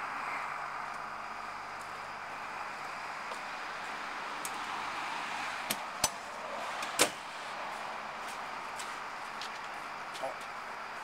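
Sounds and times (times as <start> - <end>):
outdoor hiss: 0.0 - 11.0.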